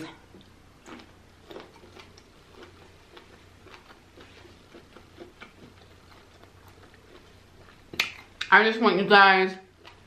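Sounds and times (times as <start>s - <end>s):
low steady hum: 0.0s - 10.0s
wet chewing clicks: 0.4s - 8.6s, 9.7s - 10.0s.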